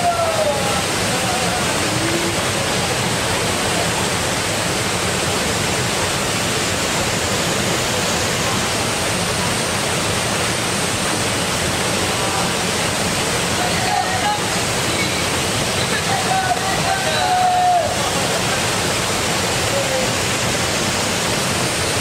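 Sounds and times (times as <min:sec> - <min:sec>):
waterfall pouring into pool: 0:00.0 - 0:22.0.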